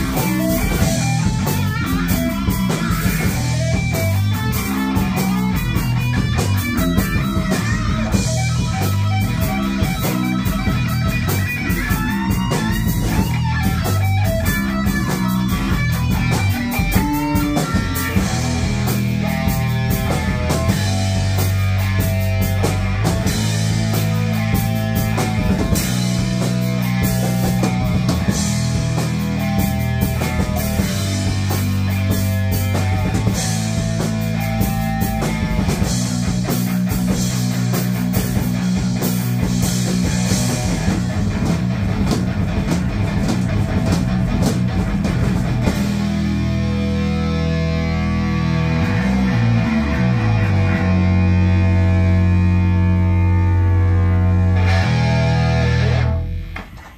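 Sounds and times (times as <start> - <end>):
drum kit with cymbals: 0.0 - 56.9
electric guitars: 0.0 - 56.9.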